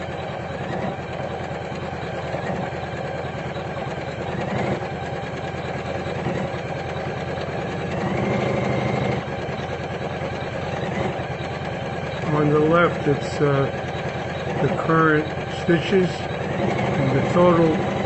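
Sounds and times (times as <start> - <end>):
embroidery machine stitching: 0.0 - 18.0.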